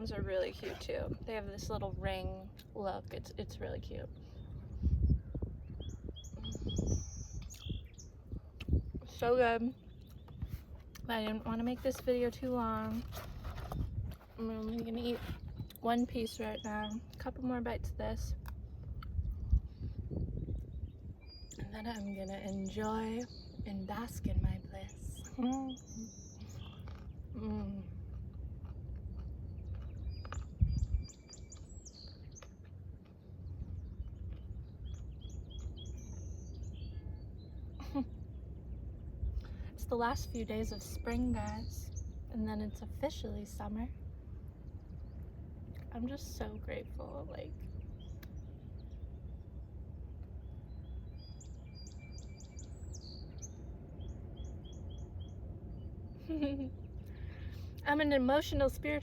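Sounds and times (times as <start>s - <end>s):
low rumble: 0.0s - 59.0s
small birds chirping: 0.0s - 59.0s.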